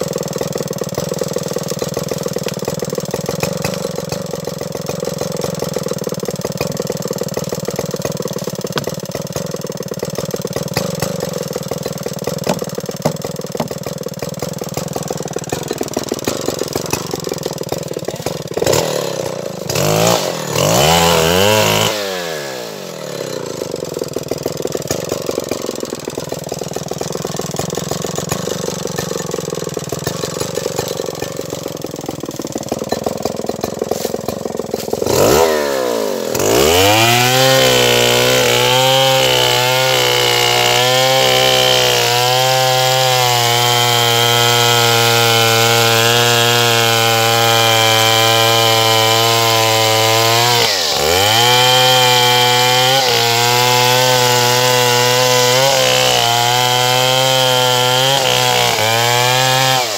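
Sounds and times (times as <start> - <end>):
chainsaw running and revving: 0.0 - 59.9.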